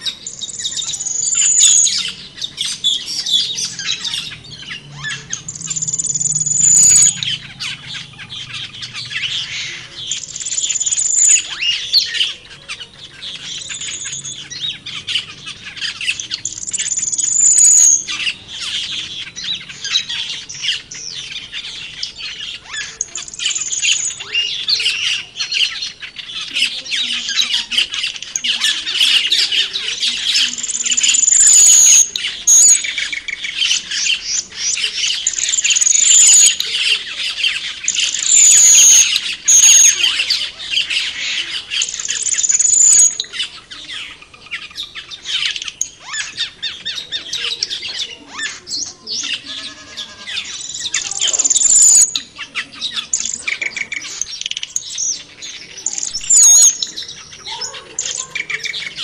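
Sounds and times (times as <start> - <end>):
birds chirping and chattering: 0.0 - 59.0.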